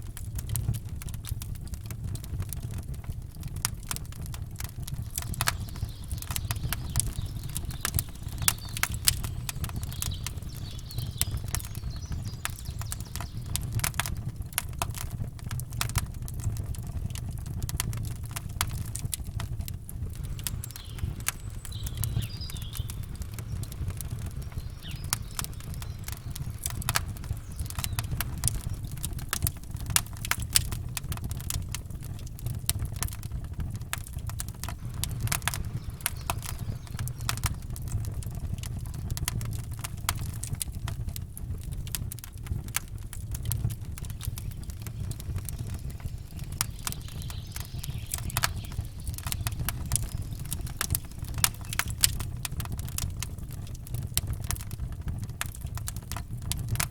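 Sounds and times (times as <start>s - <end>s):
campfire crackling and popping: 0.0s - 56.9s
low fire rumble: 0.0s - 56.9s.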